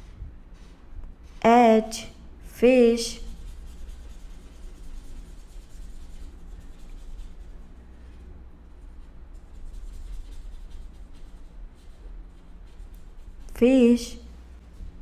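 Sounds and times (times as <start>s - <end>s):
steady low hum: 0.0s - 15.0s
scratching of writing strokes: 0.6s - 15.0s.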